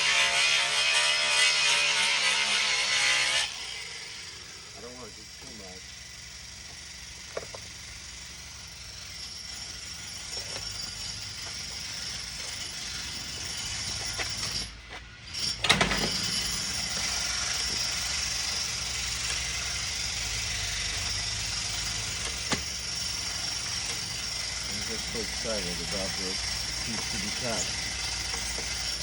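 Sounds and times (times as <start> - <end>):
angle grinder cutting plastic: 0.0 - 5.8, 8.7 - 29.0.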